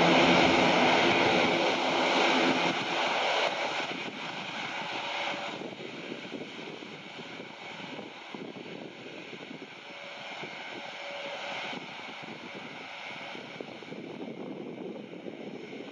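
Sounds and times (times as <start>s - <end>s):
turboprop engines droning: 0.0s - 15.9s.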